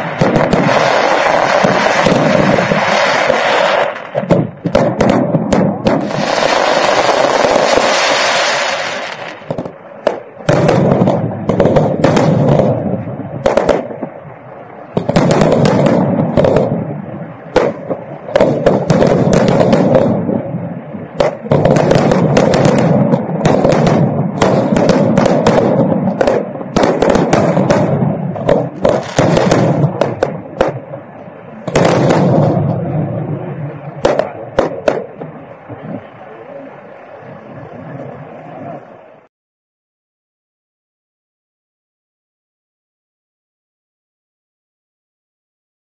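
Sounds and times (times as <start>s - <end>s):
continuous rumble: 0.0s - 7.9s, 8.8s - 39.3s
firework bangs: 0.0s - 38.9s.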